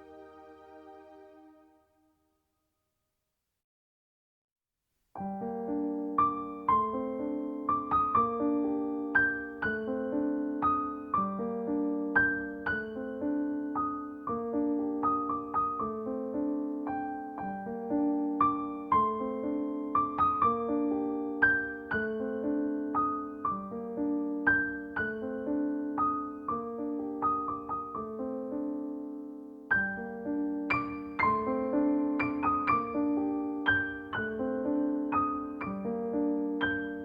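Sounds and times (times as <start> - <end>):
slow gentle piano music: 0.0 - 2.0, 5.2 - 37.0.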